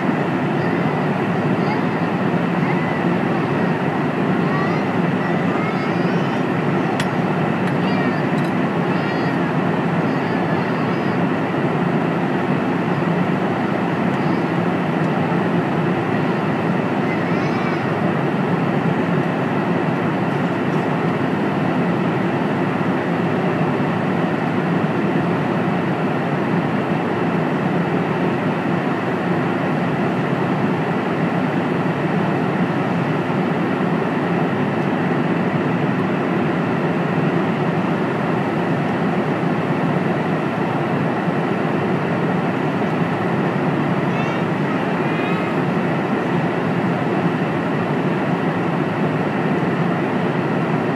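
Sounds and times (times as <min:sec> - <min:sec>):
airplane cabin noise: 0:00.0 - 0:50.9.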